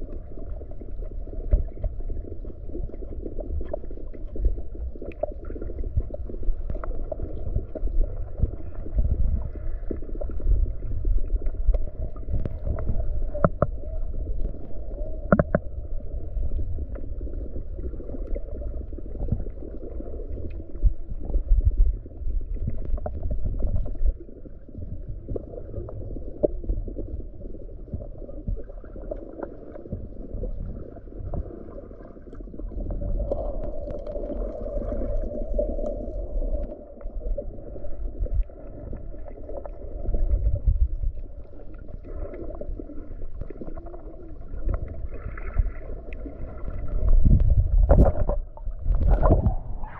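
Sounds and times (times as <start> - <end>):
underwater rumble of surging water: 0.0 - 49.9.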